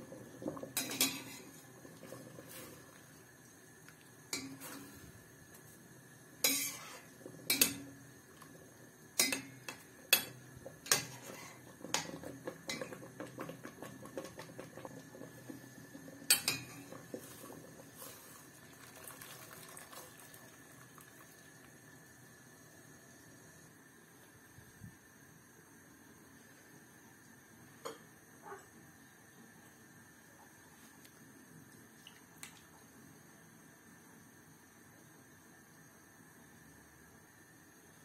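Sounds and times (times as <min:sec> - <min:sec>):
boiling water: 0:00.0 - 0:38.0.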